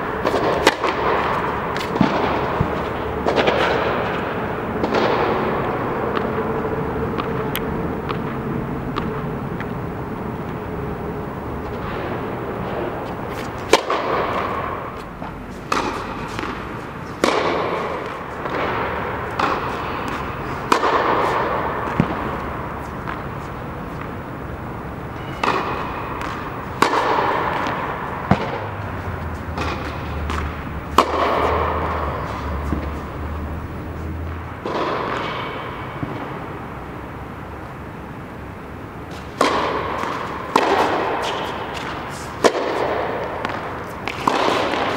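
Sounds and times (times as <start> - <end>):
racket striking tennis balls: 0.0 - 36.6, 39.0 - 44.9.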